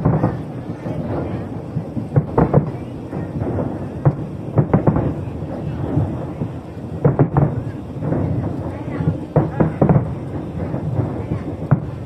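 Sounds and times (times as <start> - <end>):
fireworks booming: 0.0 - 12.0
fireworks sharp cracks: 0.0 - 12.0.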